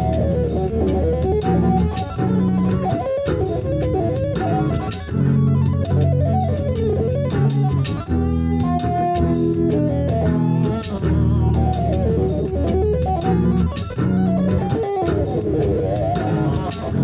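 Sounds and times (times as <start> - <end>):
electric guitar tapping: 0.0 - 17.0.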